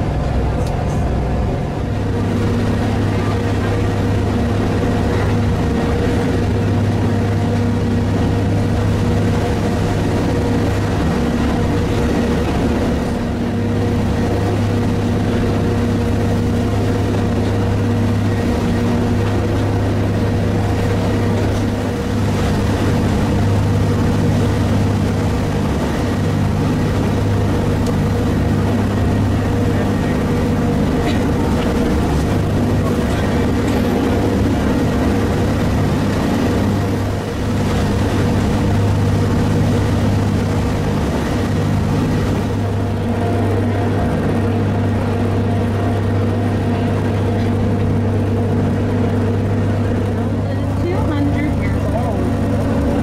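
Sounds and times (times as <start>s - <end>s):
loud steady drone with deep hum: 0.0s - 53.0s
railcar running: 0.0s - 53.0s.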